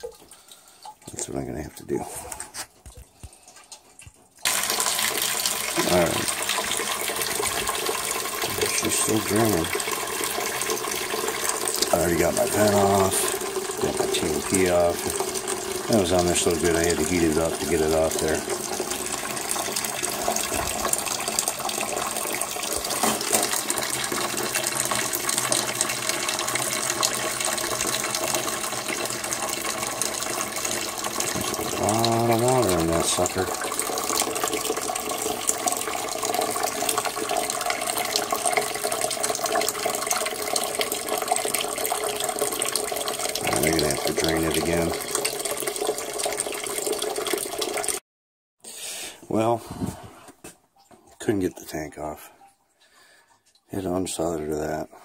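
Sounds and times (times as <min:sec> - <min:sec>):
water stream splashing into a bucket: 0:00.0 - 0:48.0.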